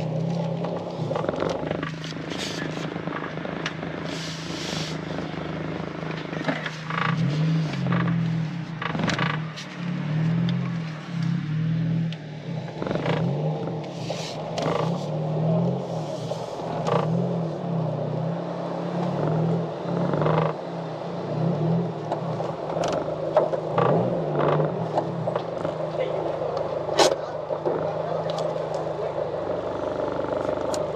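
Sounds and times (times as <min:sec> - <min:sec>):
car engine hum: 0:00.0 - 0:30.9.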